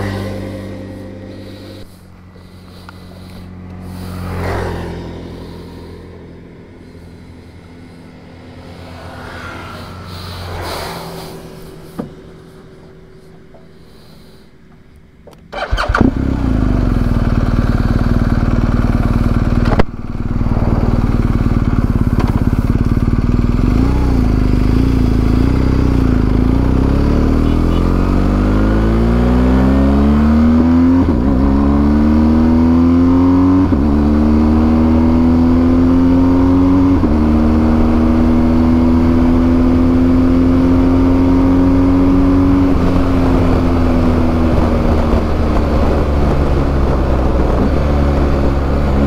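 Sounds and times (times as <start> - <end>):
motorcycle pulling away: 0.0 - 14.4, 15.5 - 49.0
motorcycle engine starting and running: 0.0 - 49.0.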